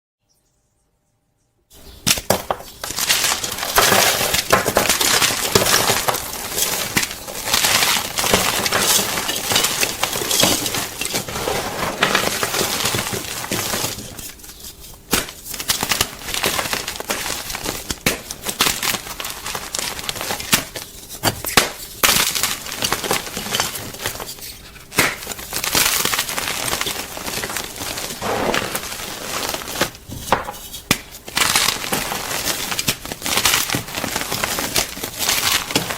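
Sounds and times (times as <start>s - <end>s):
chalk crunching and crackling: 1.8s - 35.9s.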